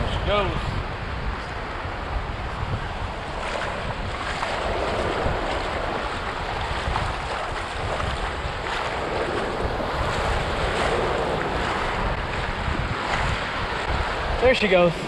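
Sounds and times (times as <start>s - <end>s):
surf waves breaking: 0.0s - 15.0s
wind rumbling on microphone: 0.0s - 15.0s.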